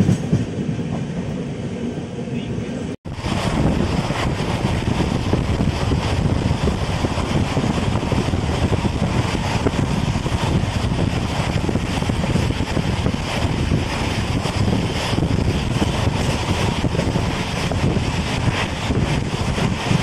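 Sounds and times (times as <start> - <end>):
train wheels rumbling on track: 0.0 - 20.0
wind rushing past microphone: 0.0 - 20.0.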